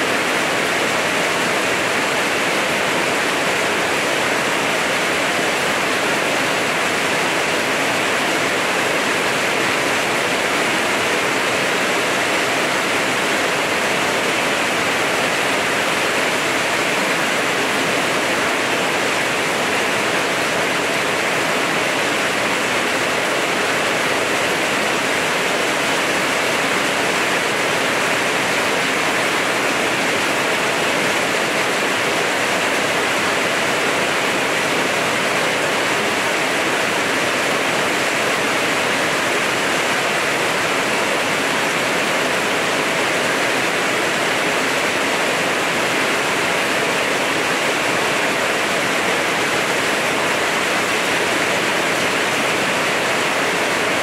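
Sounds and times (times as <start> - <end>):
heavy rain on leaves and roofs: 0.0 - 54.0.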